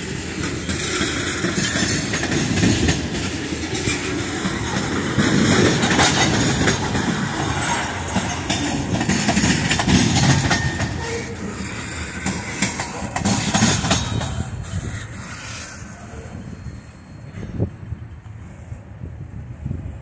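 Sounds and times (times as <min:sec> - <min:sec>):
wheels clacking over rail joints: 0:00.0 - 0:16.4
train wheels rumbling on rail: 0:00.0 - 0:20.0.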